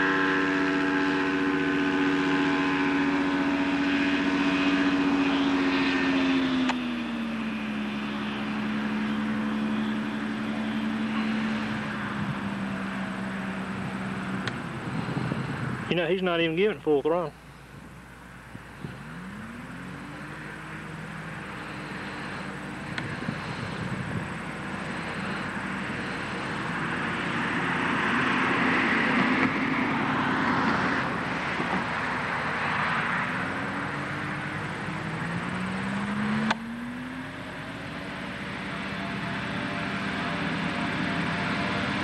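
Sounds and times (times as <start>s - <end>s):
light plane engine and propeller: 0.0s - 42.0s.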